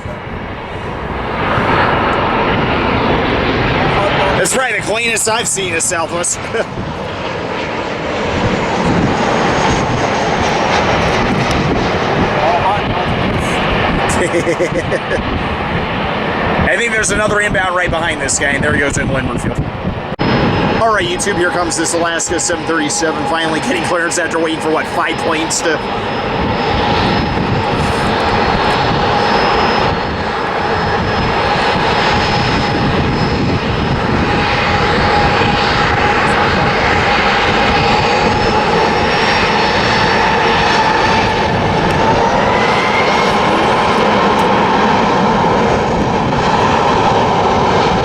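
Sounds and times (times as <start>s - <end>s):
jet engines at takeoff power: 0.0s - 48.0s.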